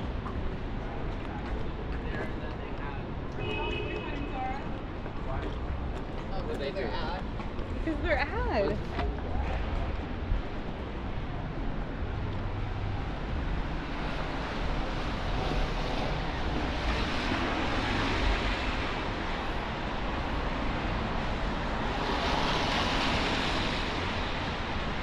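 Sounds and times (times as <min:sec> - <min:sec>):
traffic low rumble: 0:00.0 - 0:25.0.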